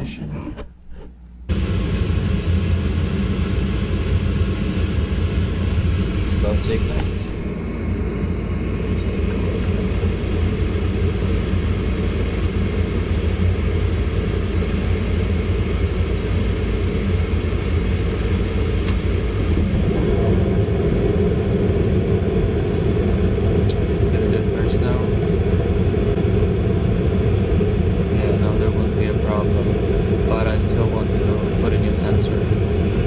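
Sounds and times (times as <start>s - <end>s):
furnace low rumble: 0.0s - 33.0s.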